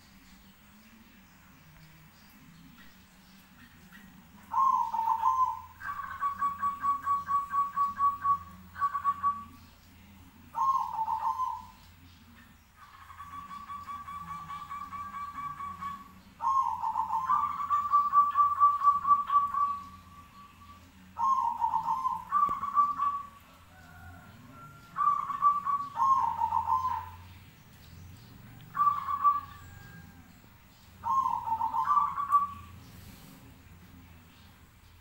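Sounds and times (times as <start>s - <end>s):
doves cooing: 3.6s - 9.6s, 10.5s - 33.7s.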